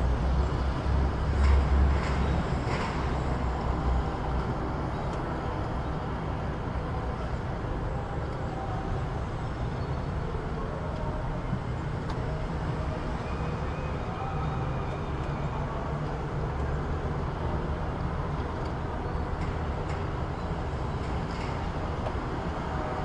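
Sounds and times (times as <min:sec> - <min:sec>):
city traffic road noise: 0:00.0 - 0:23.0
low traffic rumble: 0:00.0 - 0:23.0.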